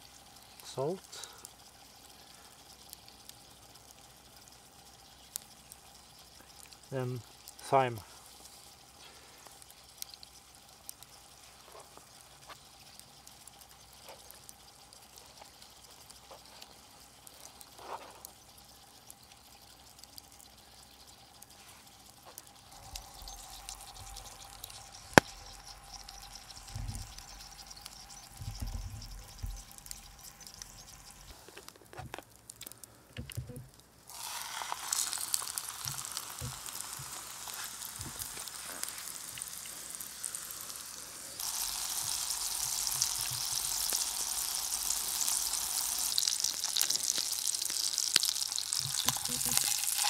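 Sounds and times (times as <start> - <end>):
potatoes sizzling in a pan: 0.0 - 33.1, 33.7 - 50.0
small crackles: 0.0 - 50.0.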